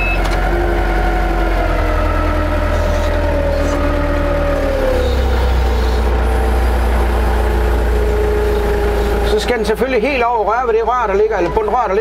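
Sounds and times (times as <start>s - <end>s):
forklift motor hum: 0.0s - 12.0s.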